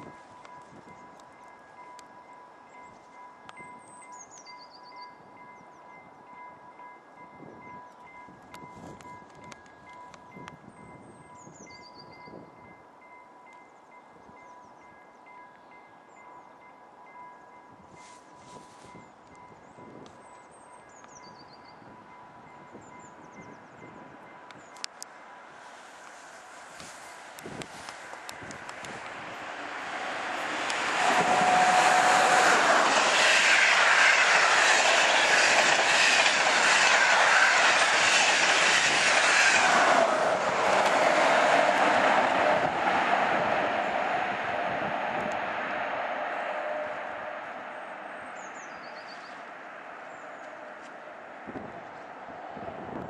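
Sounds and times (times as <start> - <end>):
distant train approaching: 0.0 - 53.0.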